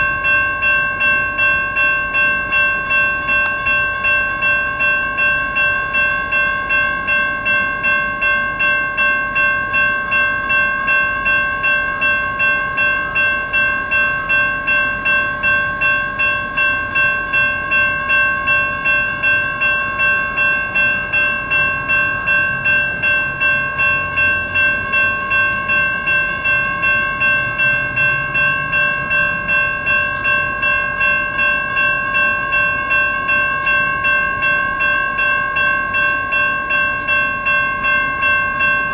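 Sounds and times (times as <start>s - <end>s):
railroad crossing bells ringing: 0.0s - 38.9s.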